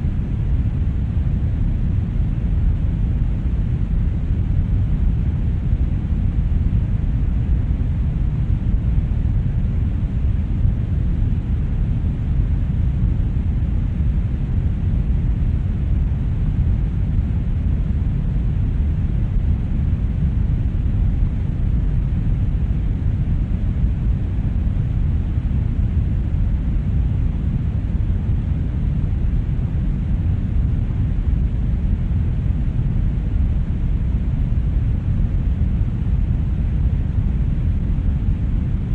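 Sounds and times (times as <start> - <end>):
brown noise: 0.0 - 38.9.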